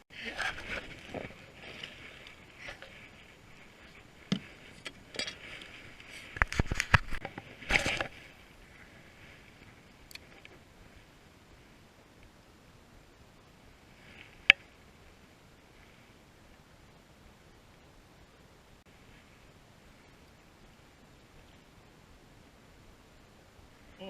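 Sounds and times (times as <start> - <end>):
faint steady hiss: 0.1 - 24.0.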